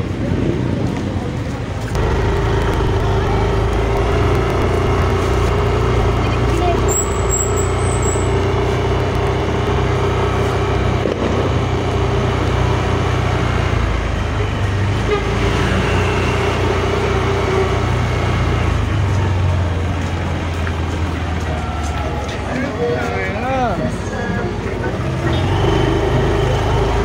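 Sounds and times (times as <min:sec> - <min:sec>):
road and wind noise: 0:00.0 - 0:27.0
scooter engine hum: 0:00.0 - 0:27.0.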